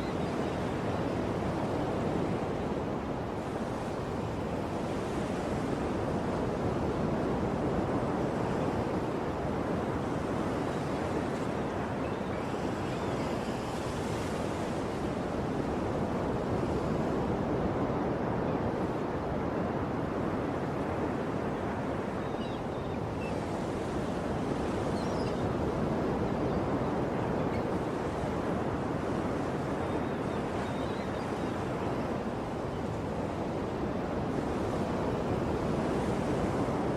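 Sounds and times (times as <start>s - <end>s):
ocean surf on shore: 0.0s - 36.9s.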